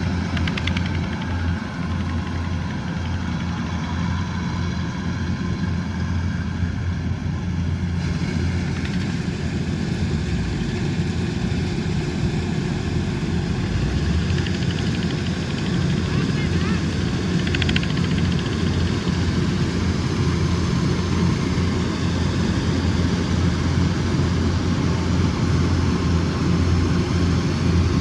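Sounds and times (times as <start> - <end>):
harvester engine humming: 0.0 - 28.0.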